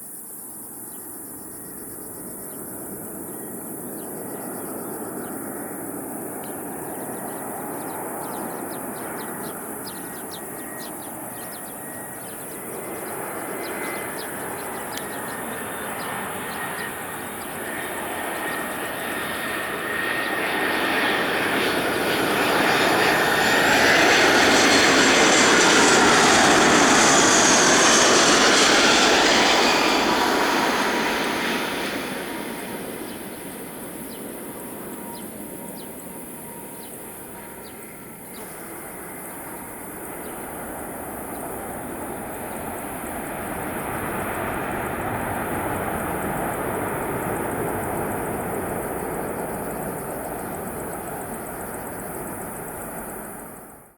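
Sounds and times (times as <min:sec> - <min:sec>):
crickets chirping: 0:00.0 - 0:53.9
jet engines passing: 0:01.8 - 0:53.9
high engine whine: 0:07.8 - 0:53.4.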